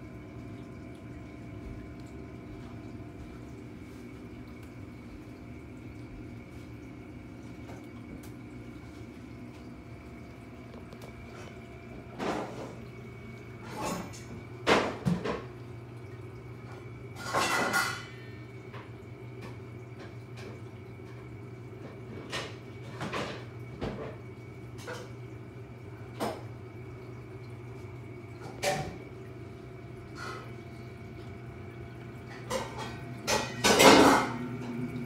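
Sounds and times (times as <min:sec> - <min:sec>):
aquarium pumps humming: 0:00.0 - 0:35.0.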